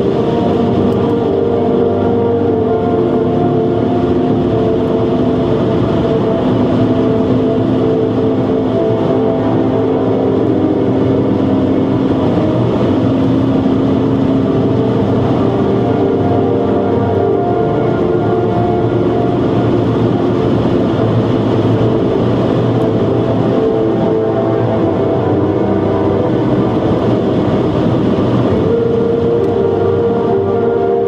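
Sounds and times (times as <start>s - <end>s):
car engine running steadily: 0.0s - 31.0s
wind noise: 0.0s - 31.0s.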